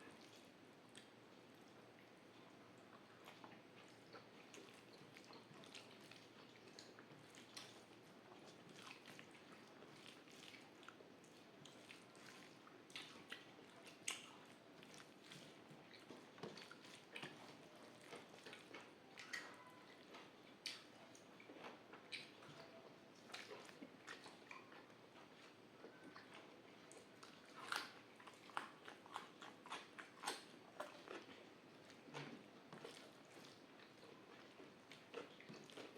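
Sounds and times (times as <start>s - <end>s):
wet chewing sounds: 0.1s - 35.9s.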